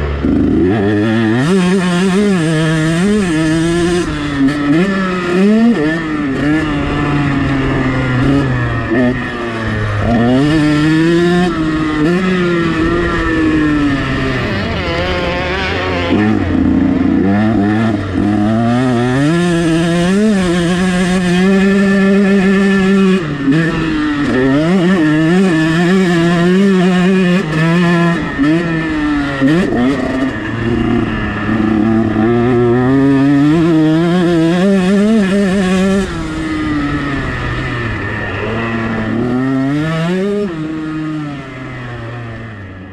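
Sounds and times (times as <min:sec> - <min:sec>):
two-stroke motorcycle engine revving: 0:00.0 - 0:42.9.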